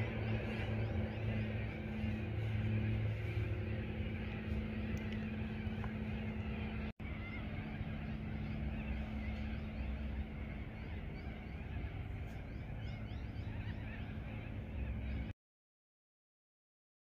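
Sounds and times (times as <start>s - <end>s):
birds chirping: 0.0s - 15.3s
faint hum: 0.0s - 15.3s
low rumble: 0.0s - 15.3s.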